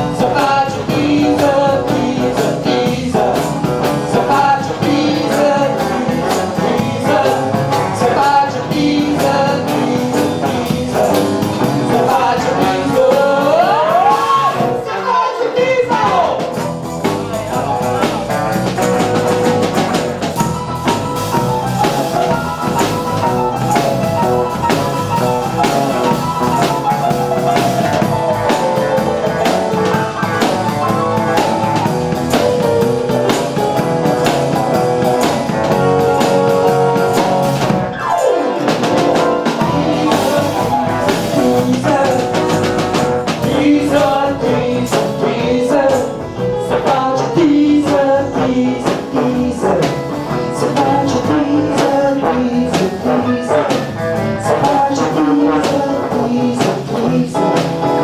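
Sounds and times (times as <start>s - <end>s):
live rock and roll band: 0.0s - 58.0s.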